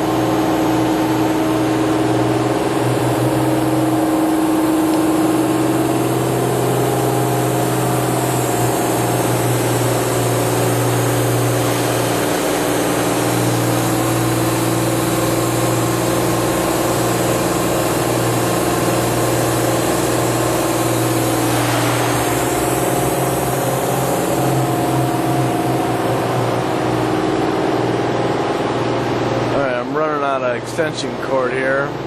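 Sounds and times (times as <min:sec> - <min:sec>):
machining center mechanical hum: 0:00.0 - 0:32.0.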